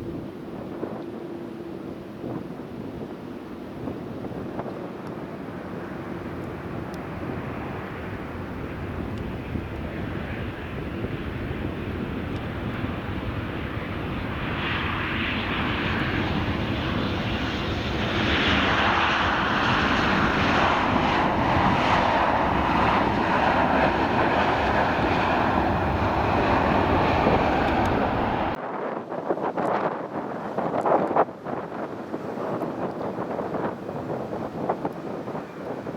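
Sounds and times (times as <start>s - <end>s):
jet engines roaring: 0.0s - 28.9s.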